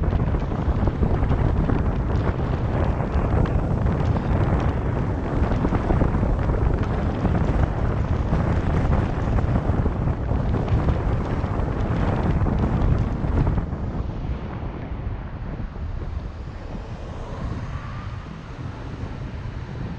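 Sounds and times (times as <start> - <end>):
car road noise: 0.0 - 19.9
wind buffeting microphone: 0.0 - 19.9.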